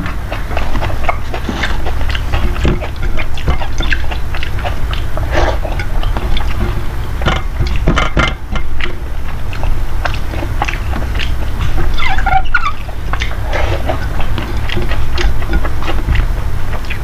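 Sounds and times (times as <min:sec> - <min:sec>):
clicking mouth sounds: 0:00.0 - 0:17.0
low hum: 0:00.0 - 0:17.0
person chewing food: 0:00.0 - 0:17.0.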